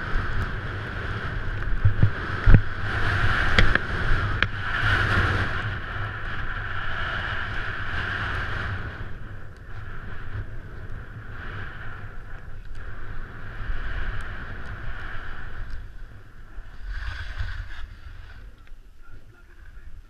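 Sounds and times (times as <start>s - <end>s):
skis scraping over packed snow: 0.0s - 19.9s
wind buffeting microphone: 0.0s - 20.0s.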